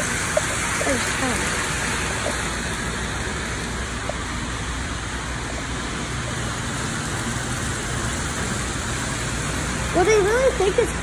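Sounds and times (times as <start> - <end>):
model trains rumbling on track: 0.0 - 11.0.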